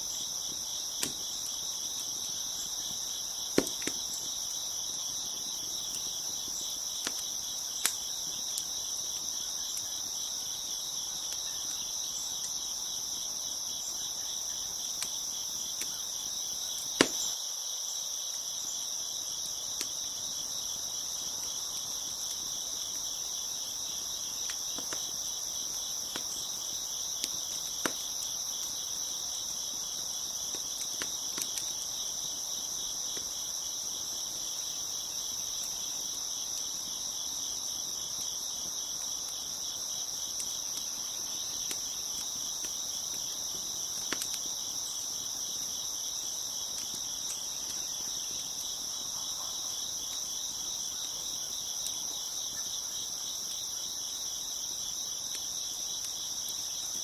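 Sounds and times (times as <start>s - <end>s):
crickets chirping: 0.0s - 57.0s
wood fire crackling pops: 0.1s - 17.4s, 19.4s - 34.8s, 35.5s - 52.6s.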